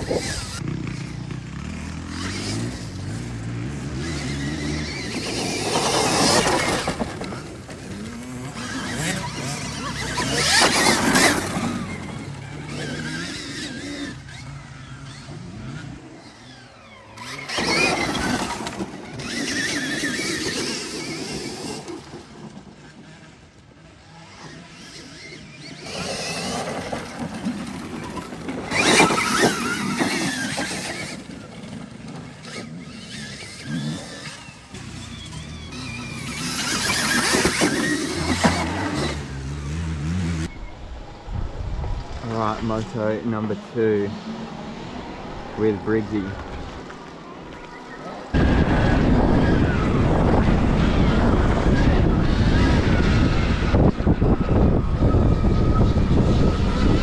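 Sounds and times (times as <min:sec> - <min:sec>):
electric dirt bike motor whine: 0:00.0 - 0:43.4, 0:44.1 - 0:57.0
tyre and dirt noise: 0:00.0 - 0:57.0.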